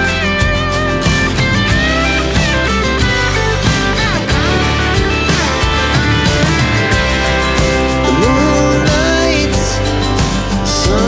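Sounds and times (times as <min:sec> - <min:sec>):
pop song with guitar: 0:00.0 - 0:11.0.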